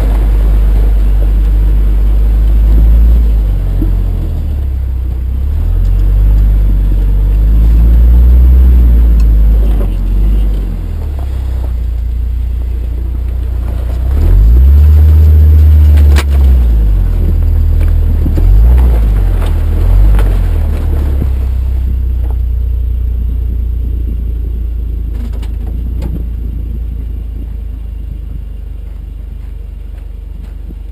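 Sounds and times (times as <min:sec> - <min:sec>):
off-road vehicle engine rumbling: 0:00.0 - 0:30.9.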